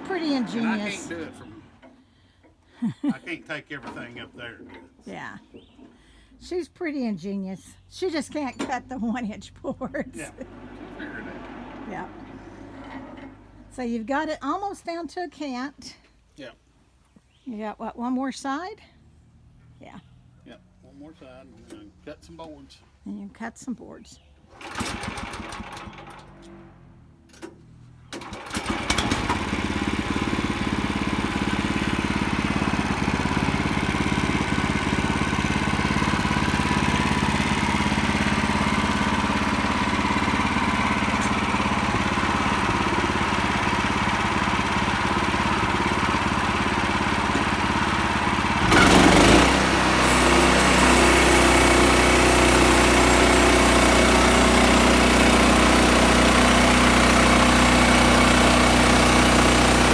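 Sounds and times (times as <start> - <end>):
engine running: 0.0 - 4.7, 6.4 - 14.8, 24.5 - 59.9.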